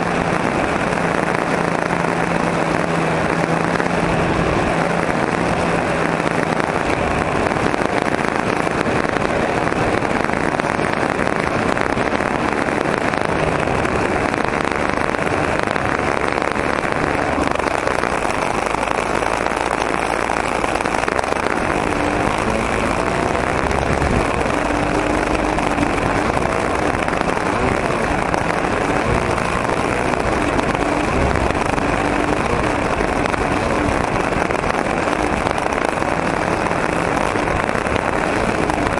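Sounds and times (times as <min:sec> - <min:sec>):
model airplane engine buzzing: 0:00.0 - 0:38.9.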